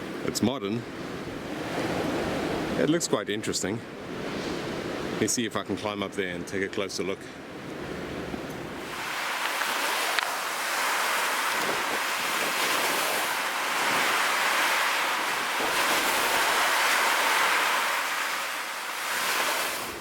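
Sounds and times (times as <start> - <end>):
ocean surf washing on shore: 0.0 - 3.0, 3.8 - 5.4, 7.4 - 20.0.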